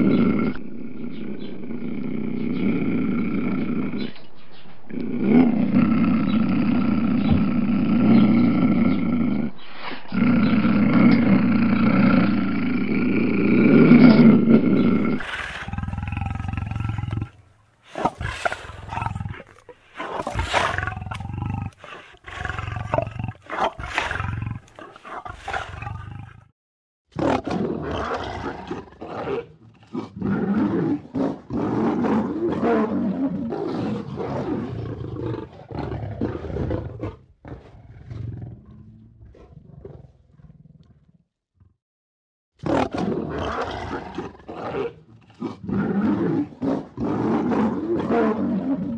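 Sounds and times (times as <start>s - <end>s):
lions roaring: 0.0s - 26.4s, 27.2s - 41.1s, 42.7s - 48.9s.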